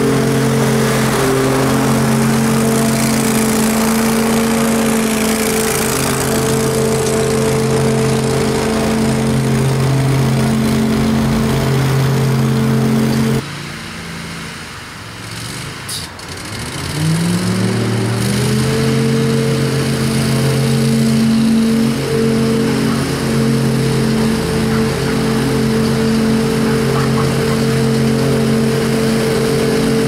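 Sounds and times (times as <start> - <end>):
mower engine running: 0.0 - 13.4, 16.2 - 30.0.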